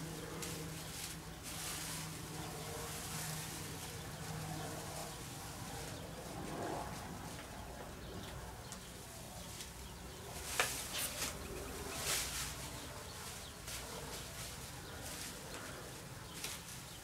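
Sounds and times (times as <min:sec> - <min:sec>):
faint low hum: 0:00.0 - 0:16.4.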